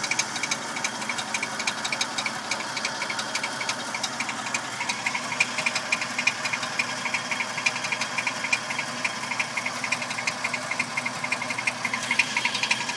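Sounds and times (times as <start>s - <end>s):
fast ticking rattle: 0.0s - 12.9s
truck engine idling: 0.0s - 12.9s.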